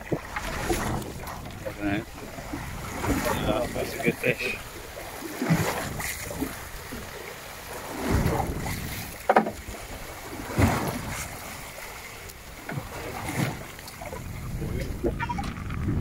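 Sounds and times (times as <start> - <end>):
water splashing against hull: 0.0 - 16.0
wind on microphone: 0.0 - 16.0.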